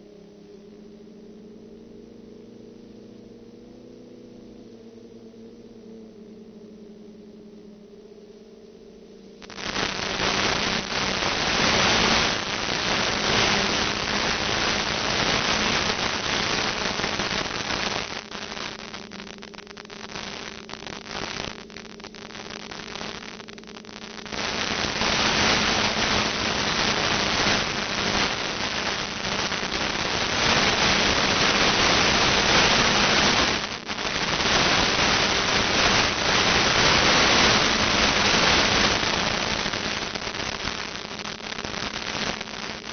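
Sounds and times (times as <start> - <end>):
static hiss and crackle: 0.0 - 42.9.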